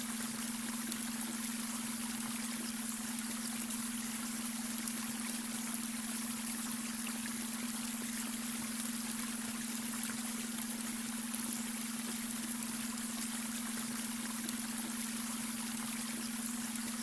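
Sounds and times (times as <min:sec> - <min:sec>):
water trickling over stones: 0:00.0 - 0:17.0.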